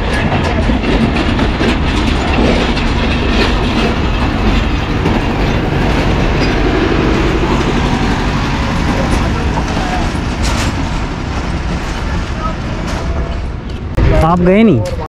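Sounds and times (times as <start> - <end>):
steady train rumble: 0.0 - 15.0
steel wheels clattering over rail joints: 0.0 - 15.0.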